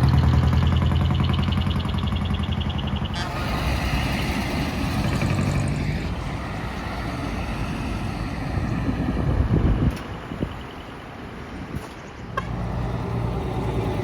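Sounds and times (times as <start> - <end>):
diesel truck engine passing: 0.0 - 14.0.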